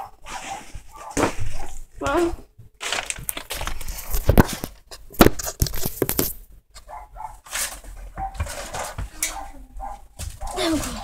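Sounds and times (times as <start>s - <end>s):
handheld camera rustling and bumping: 0.0s - 11.0s.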